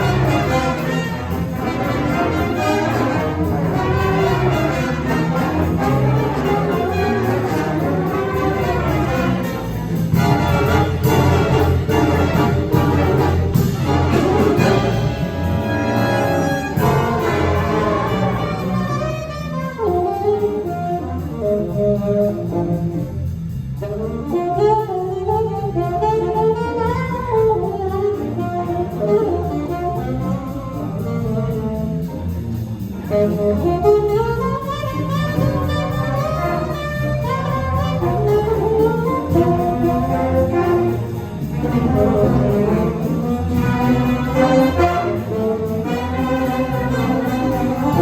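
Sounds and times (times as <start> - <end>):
jazz big band playing: 0.0 - 48.0.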